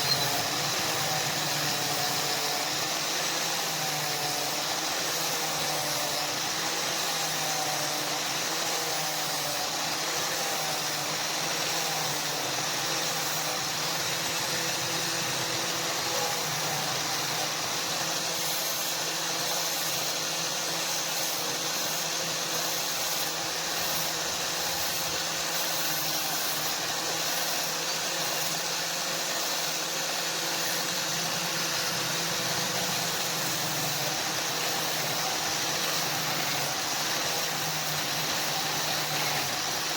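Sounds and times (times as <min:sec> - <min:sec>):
electric motor humming: 0:00.0 - 0:39.9.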